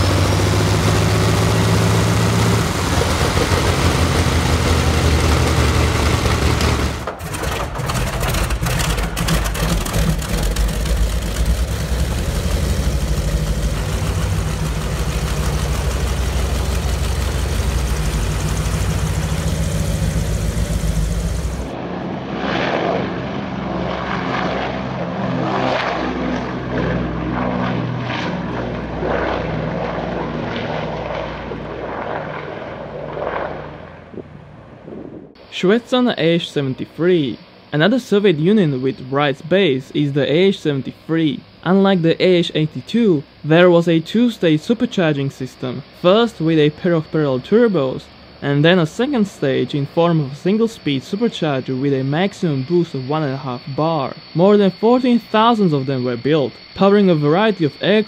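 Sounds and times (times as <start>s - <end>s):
aircraft propellers running: 0.0s - 58.0s
radial aircraft engines running: 0.0s - 58.0s.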